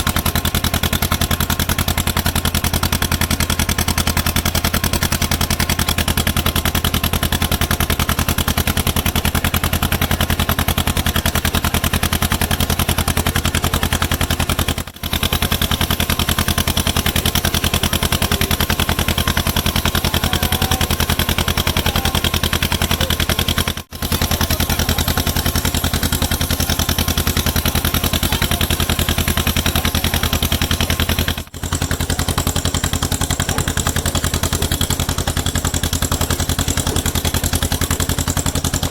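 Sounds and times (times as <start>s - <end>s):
engine chugging: 0.0s - 38.9s.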